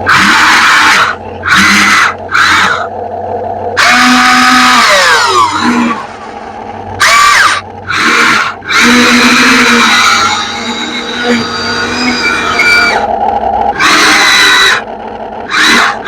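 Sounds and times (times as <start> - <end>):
toy excavator motors whining: 0.0 - 6.3, 6.9 - 16.0.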